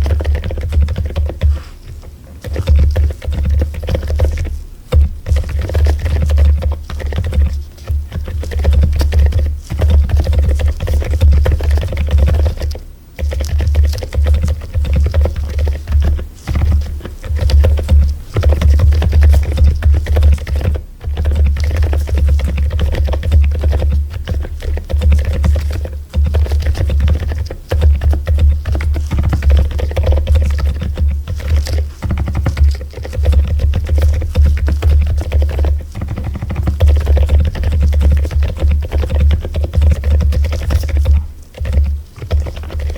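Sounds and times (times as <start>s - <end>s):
typing on mechanical keyboard: 0.0s - 42.9s.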